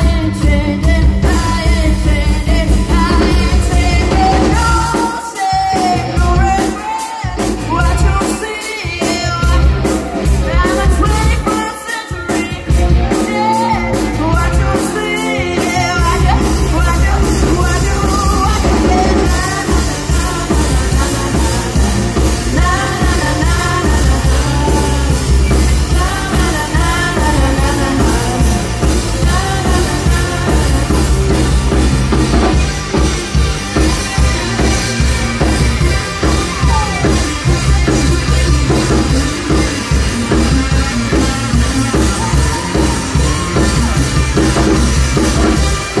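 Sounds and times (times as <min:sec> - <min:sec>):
bass guitar: 0:00.0 - 0:46.0
drum kit: 0:00.0 - 0:46.0
electric guitar: 0:00.0 - 0:46.0
lead vocal singing: 0:00.0 - 0:46.0.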